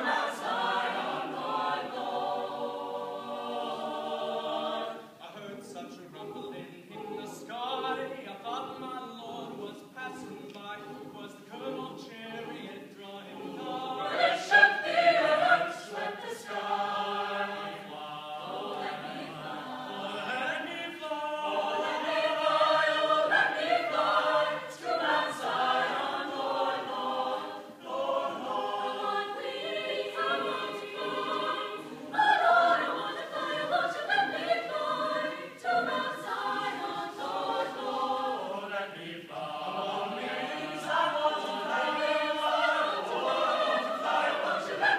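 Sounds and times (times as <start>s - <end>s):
choir singing in parts: 0.0s - 44.9s.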